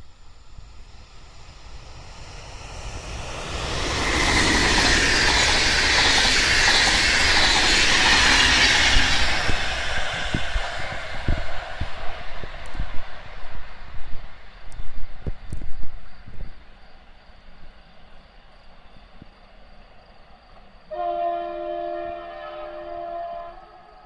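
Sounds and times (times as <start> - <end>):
train wheel and rail noise: 0.0 - 24.0.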